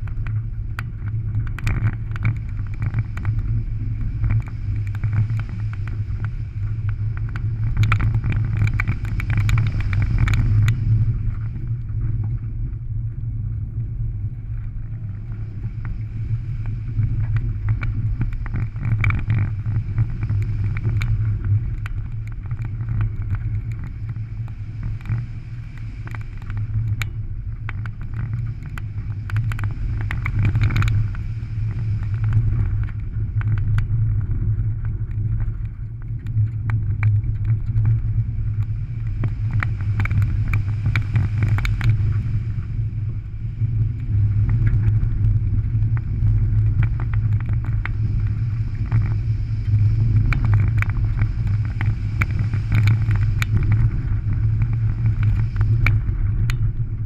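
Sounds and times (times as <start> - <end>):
gravel clattering against underbody: 0.0 - 12.8, 15.6 - 42.7, 43.8 - 56.9.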